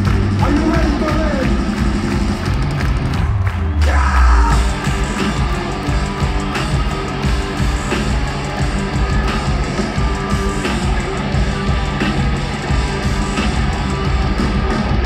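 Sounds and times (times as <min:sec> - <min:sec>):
distorted electric guitar: 0:00.0 - 0:15.0
drums keeping a steady beat: 0:00.0 - 0:15.0.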